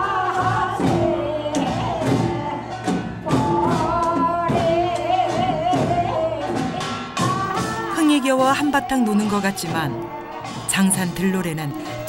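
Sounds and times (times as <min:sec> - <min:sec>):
women singing through pa system: 0:00.0 - 0:12.0.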